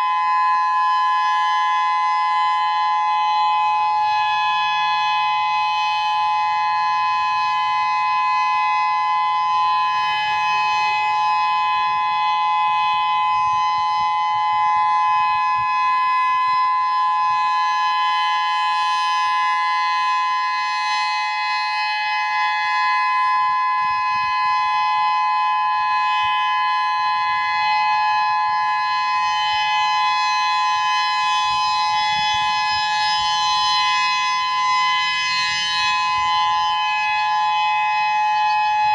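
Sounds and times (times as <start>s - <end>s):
steady electronic siren: 0.0s - 38.9s.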